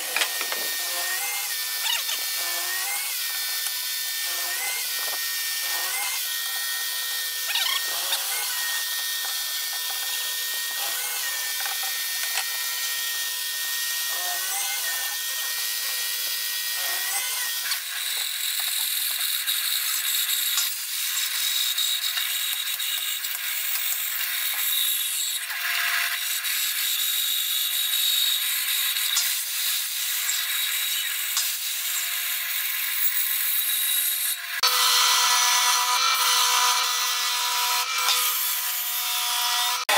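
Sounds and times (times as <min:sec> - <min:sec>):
bandsaw cutting wood: 0:00.0 - 0:39.9
electric drill boring into wood: 0:00.0 - 0:39.9.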